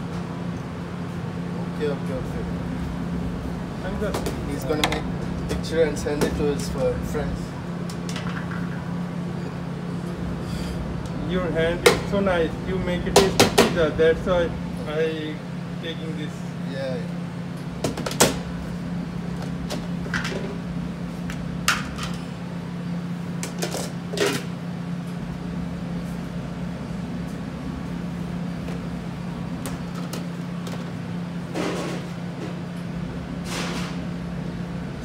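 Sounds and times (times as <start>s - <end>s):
kitchen machinery humming: 0.0s - 35.0s.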